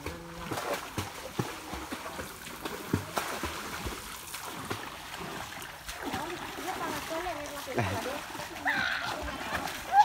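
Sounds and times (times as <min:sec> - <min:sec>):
water sloshing: 0:00.0 - 0:10.0
water splashing: 0:00.0 - 0:10.0.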